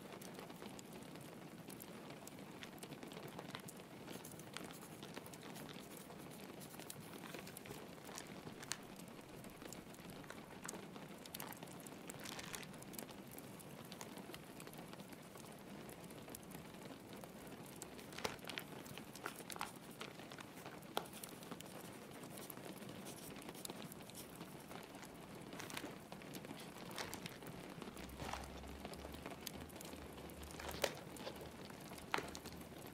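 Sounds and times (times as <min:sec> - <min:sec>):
fireplace crackle: 0:00.0 - 0:32.9
rain pattering on a window: 0:00.0 - 0:32.9.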